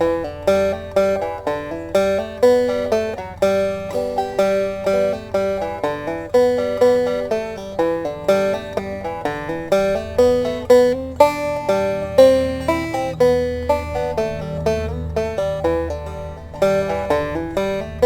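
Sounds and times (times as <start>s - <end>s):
banjo plucked notes: 0.0s - 18.0s.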